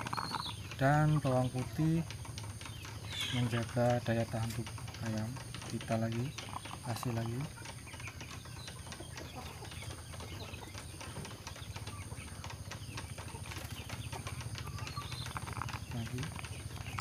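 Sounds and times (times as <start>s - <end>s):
chicken chirping: 0.0s - 17.0s
small irregular clicks and rustles: 0.0s - 17.0s
steady low hum: 0.0s - 17.0s.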